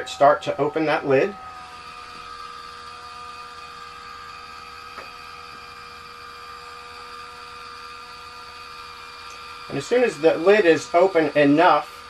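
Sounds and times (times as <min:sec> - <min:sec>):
vent lid motor whining: 0:00.0 - 0:12.0.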